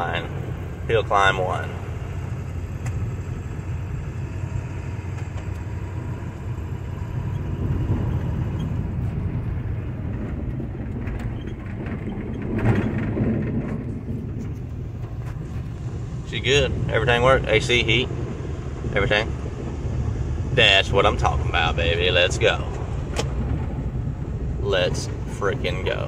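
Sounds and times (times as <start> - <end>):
diesel engine rumbling under load: 0.0 - 26.0
road noise: 0.0 - 26.0.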